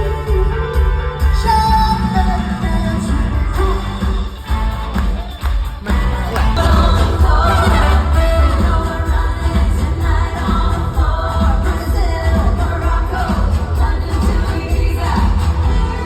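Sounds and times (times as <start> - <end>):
heavy continuous bass: 0.0 - 16.0
singers over a band: 0.0 - 16.0.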